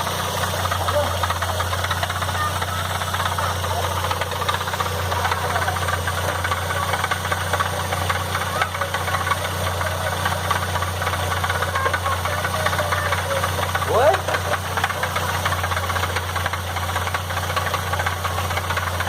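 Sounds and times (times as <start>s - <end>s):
car engine running: 0.0s - 19.0s
fast ticking engine clatter: 0.0s - 19.0s.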